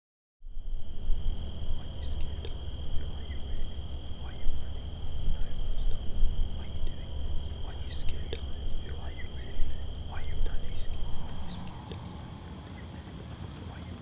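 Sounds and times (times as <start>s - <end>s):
insects trilling: 0.5s - 14.0s
low rumble: 0.5s - 14.0s.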